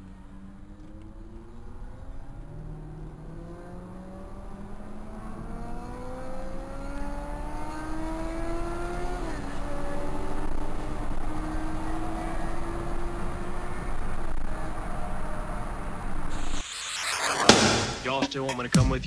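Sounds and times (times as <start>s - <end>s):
car engine accelerating: 0.0s - 18.2s.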